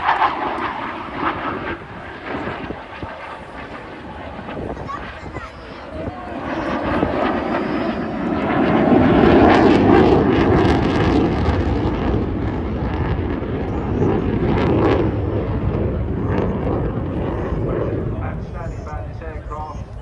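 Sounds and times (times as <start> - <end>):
loud jet roar: 0.0 - 20.0.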